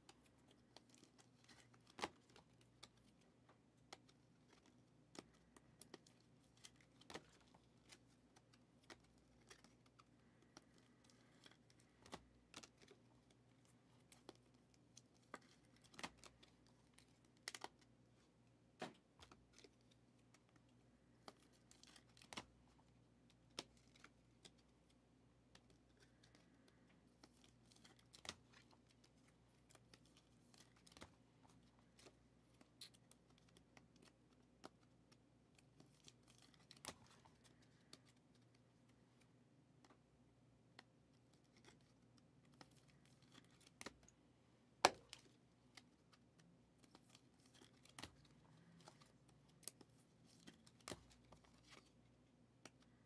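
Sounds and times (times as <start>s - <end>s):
trading cards clicking and rustling: 0.0s - 40.0s, 40.8s - 44.1s, 44.8s - 53.0s.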